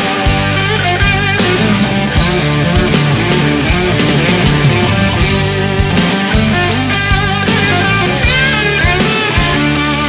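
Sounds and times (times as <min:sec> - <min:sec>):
electric guitar: 0:00.0 - 0:10.0
rock band playing: 0:00.0 - 0:10.0.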